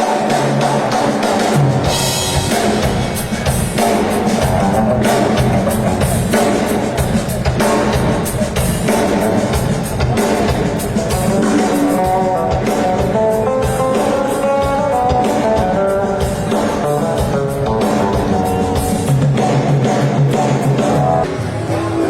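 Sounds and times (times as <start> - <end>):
steady drum beat: 0.0 - 21.3.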